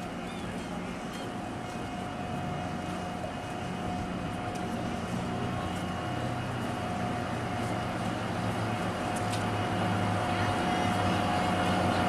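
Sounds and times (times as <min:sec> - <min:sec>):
diesel locomotive idling: 0:00.0 - 0:12.0.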